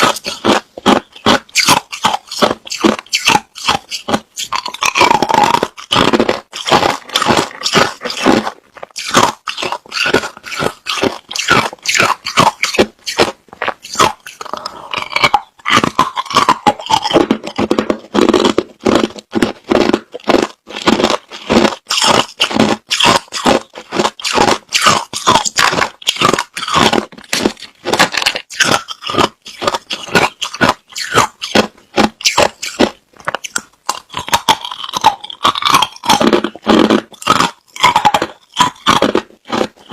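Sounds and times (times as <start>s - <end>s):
chewing crushed ice: 0.0s - 39.9s.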